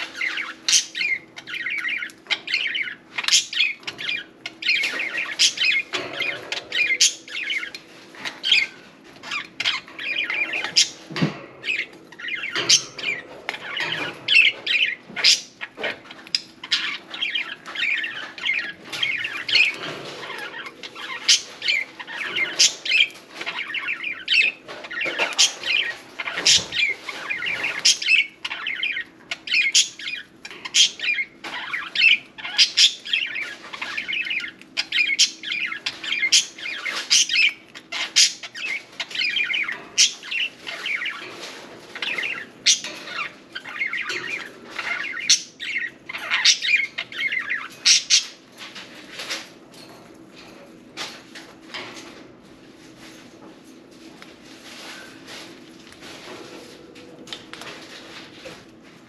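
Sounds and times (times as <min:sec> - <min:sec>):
budgerigars chattering and chirping: 0:00.0 - 0:49.5.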